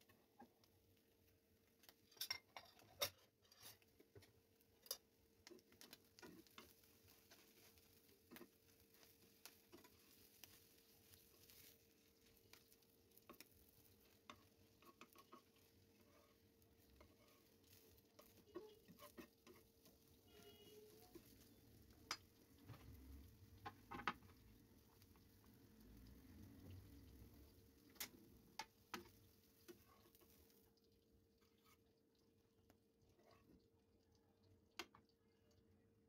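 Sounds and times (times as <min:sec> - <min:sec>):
egg frying in oil: 0:00.0 - 0:36.0.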